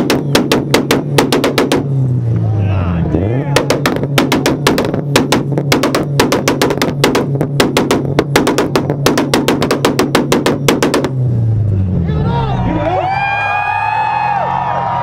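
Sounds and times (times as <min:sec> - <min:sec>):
car engine on rev limiter: 0:00.0 - 0:14.6
exhaust bangs: 0:00.0 - 0:15.0.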